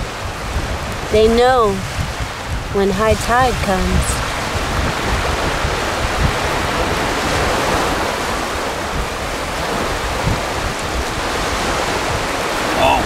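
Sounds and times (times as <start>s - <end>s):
surf rushing: 0.0s - 13.0s
wind buffeting microphone: 0.0s - 13.0s.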